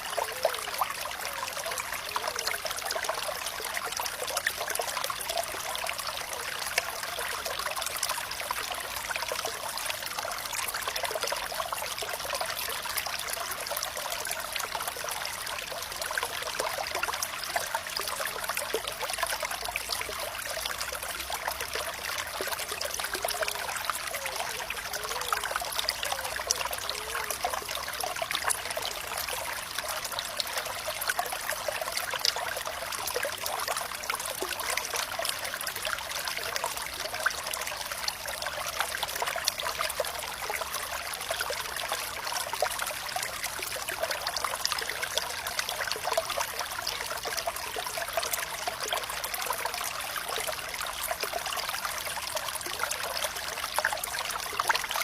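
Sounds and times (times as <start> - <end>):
stream trickling and bubbling: 0.0 - 55.0.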